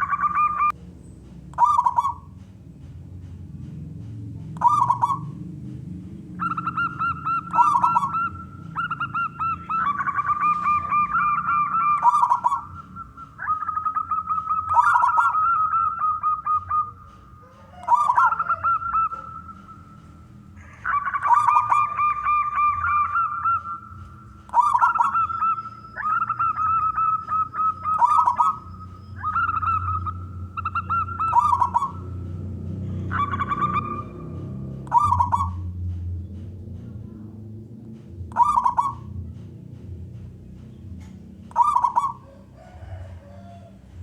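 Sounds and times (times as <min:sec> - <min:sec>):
dove cooing: 0:00.0 - 0:00.8, 0:01.6 - 0:02.4, 0:04.5 - 0:36.0, 0:36.6 - 0:44.0.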